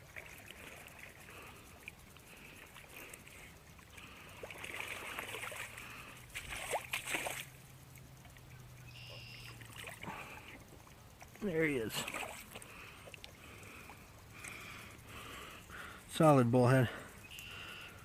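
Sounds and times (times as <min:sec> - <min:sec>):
splashing in shallow water: 0:00.0 - 0:14.7.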